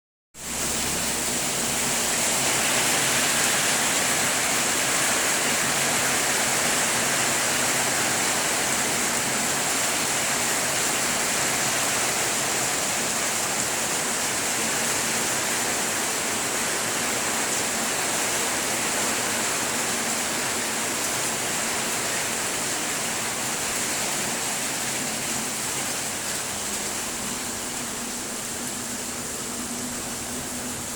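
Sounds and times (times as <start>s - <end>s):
heavy rain pouring: 0.4s - 30.9s.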